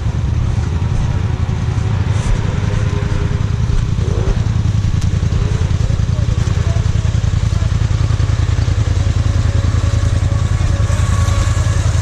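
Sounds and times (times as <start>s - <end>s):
engine rumbling at low revs: 0.0s - 12.0s.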